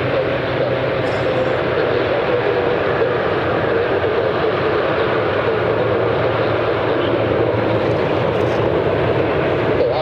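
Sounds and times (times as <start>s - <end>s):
jet engines running loudly: 0.0s - 10.0s.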